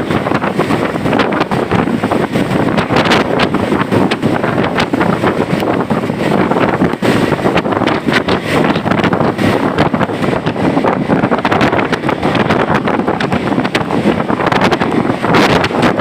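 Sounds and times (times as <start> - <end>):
road travel in heavy rain: 0.0 - 16.0
wind buffeting microphone: 0.0 - 16.0.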